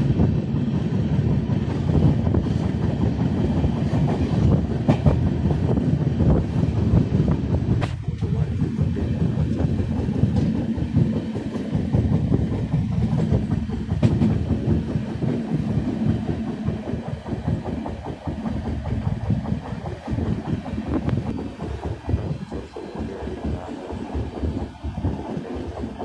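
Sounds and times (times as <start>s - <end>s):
sharp clicks of train: 0.0s - 26.0s
train wheels rumbling on rails: 0.0s - 26.0s.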